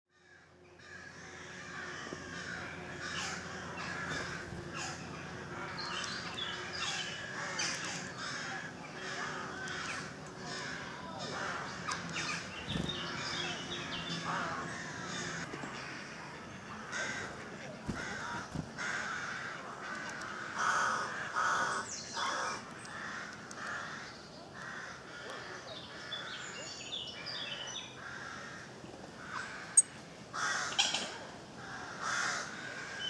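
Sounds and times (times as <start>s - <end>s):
birds cawing: 0.1s - 26.5s, 27.6s - 33.0s.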